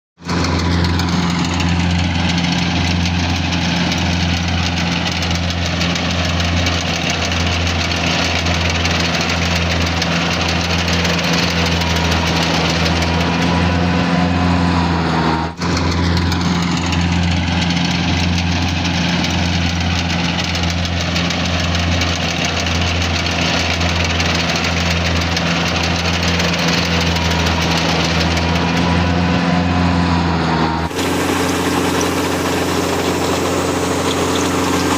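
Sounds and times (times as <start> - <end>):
mechanical clatter and whir: 0.2 - 13.8, 15.5 - 29.3, 30.8 - 34.9
harvester engine hum: 0.2 - 34.9.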